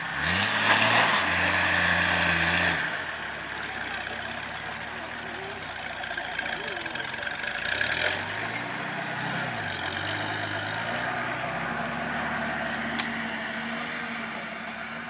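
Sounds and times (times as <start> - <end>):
off-road vehicle engine at low revs: 0.0 - 15.0.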